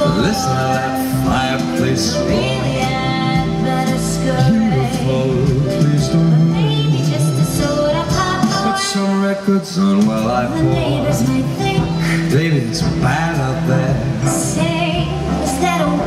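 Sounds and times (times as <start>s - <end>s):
music with singing over loudspeakers: 0.0s - 16.0s.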